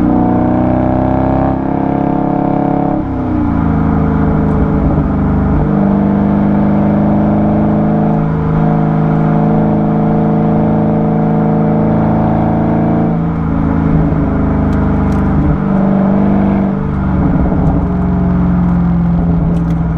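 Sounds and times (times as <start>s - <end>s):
car engine exhaust running: 0.0s - 19.9s.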